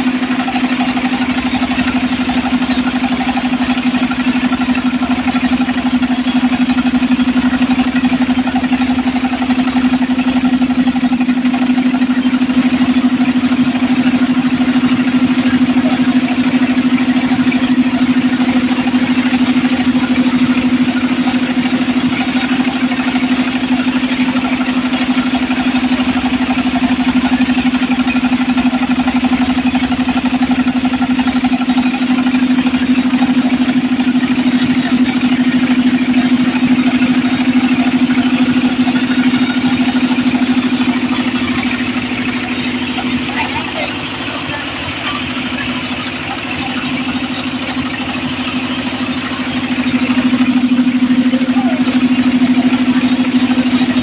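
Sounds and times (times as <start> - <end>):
circular saw machine humming: 0.0 - 54.0.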